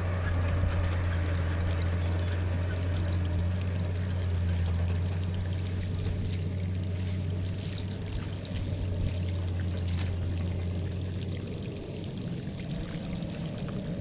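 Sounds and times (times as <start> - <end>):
water pouring through culvert: 0.0 - 14.0.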